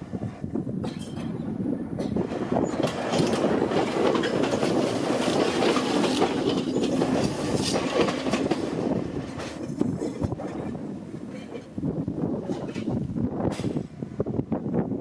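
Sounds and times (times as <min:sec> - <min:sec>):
train wheels clattering on rails: 0:00.8 - 0:14.0.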